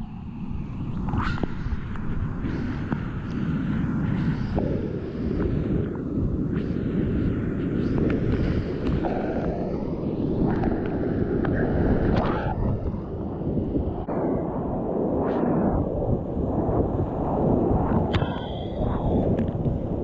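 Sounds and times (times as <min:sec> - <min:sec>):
low rumble on microphone: 0:00.0 - 0:20.0.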